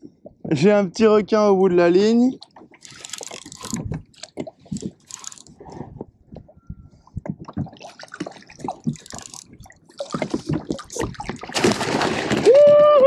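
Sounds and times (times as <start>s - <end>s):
water lapping against kayak hull: 2.2s - 12.9s.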